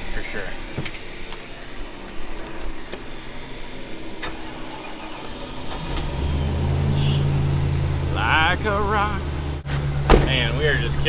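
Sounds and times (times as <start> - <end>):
truck engine starting and idling: 0.0 - 11.0.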